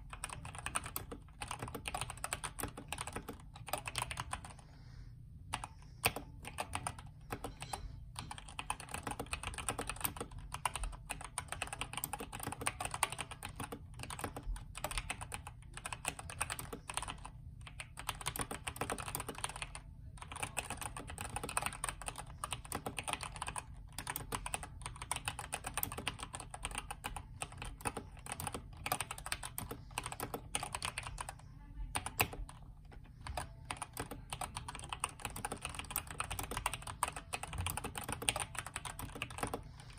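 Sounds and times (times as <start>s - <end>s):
mechanical keyboard typing: 0.0s - 4.6s, 5.5s - 39.9s.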